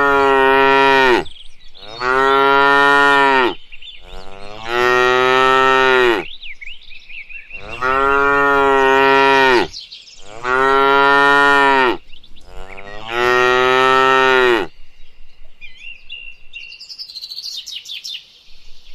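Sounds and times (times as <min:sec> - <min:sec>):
small birds chirping: 0:00.7 - 0:18.9.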